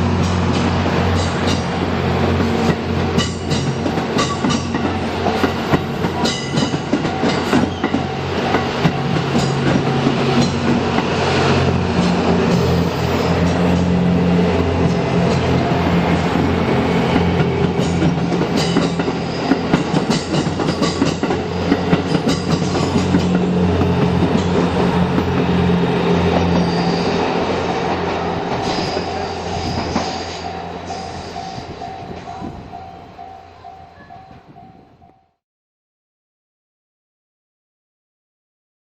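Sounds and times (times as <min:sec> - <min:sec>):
train engine hum: 0:00.0 - 0:35.2.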